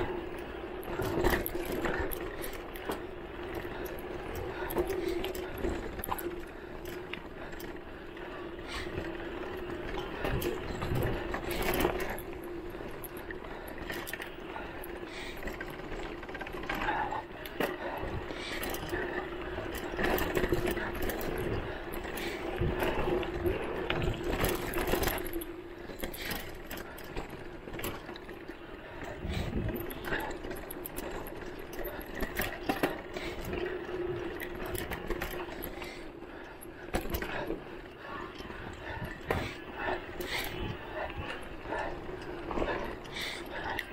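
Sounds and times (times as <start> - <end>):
bike rattling and knocking: 0.0 - 43.9
tyres rumbling on dirt trail: 0.0 - 43.9.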